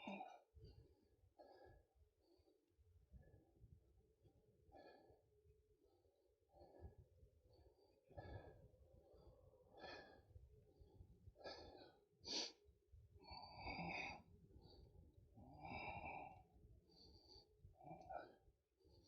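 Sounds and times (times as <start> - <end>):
faint breathing: 0.0 - 3.7, 4.7 - 12.6, 13.2 - 19.0.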